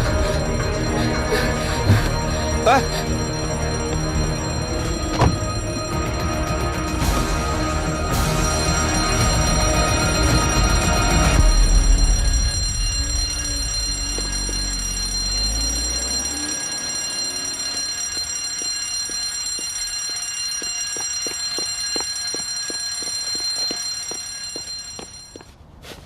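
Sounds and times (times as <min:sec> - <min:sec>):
fire alarm bell ringing: 0:00.0 - 0:25.5.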